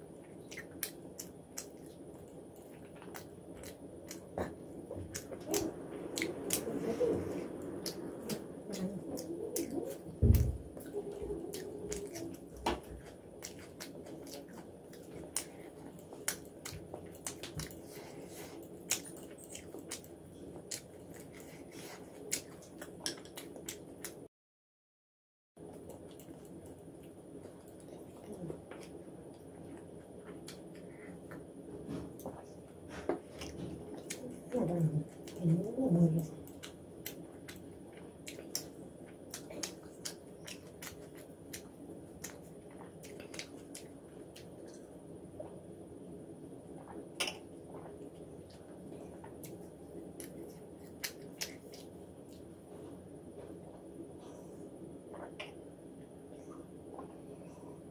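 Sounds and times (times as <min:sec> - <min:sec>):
chewing with mouth clicks: 0:00.2 - 0:24.3, 0:25.6 - 0:45.6, 0:46.7 - 0:54.5, 0:55.1 - 0:55.6.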